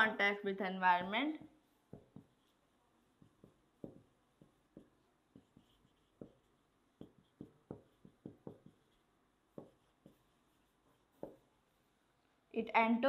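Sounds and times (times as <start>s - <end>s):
marker pen writing on whiteboard: 1.0s - 12.2s.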